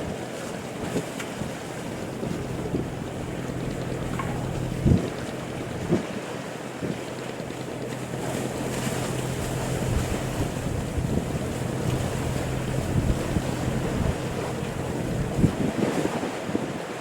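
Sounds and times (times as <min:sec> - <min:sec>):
boat engine drone: 0:00.0 - 0:16.6
water noise: 0:00.0 - 0:17.0
wind buffeting microphone: 0:00.0 - 0:17.0.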